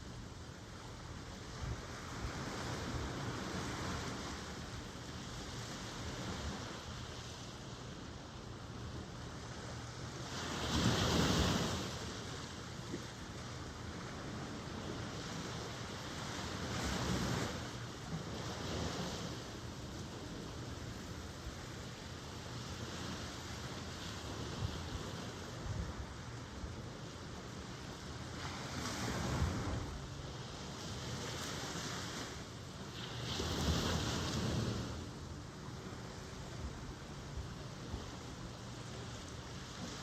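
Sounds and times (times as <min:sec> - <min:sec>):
ocean waves washing in: 0:00.0 - 0:40.0.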